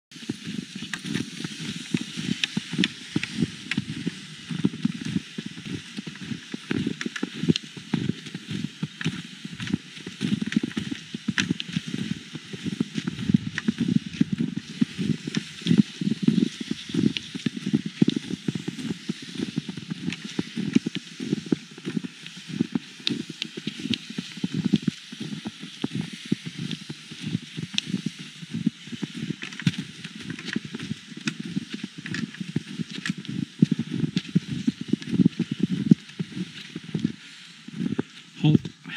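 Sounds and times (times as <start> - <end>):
footsteps crunching through snow: 0.2 - 38.9.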